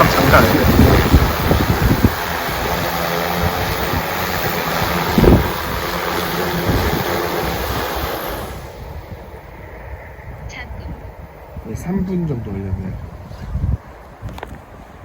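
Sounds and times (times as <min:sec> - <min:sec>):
drone propellers humming: 0:00.0 - 0:15.0
gusty wind buffeting microphone: 0:00.0 - 0:15.0.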